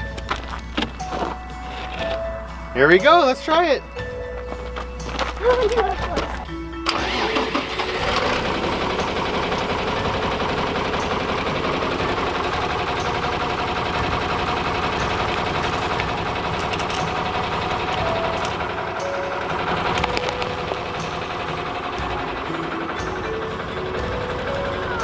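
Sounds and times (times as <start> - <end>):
tractor engine chugging: 0.0 - 25.0.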